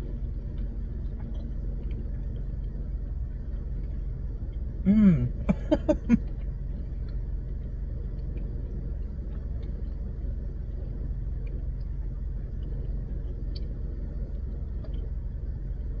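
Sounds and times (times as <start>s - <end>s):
low rumble inside car: 0.0s - 16.0s.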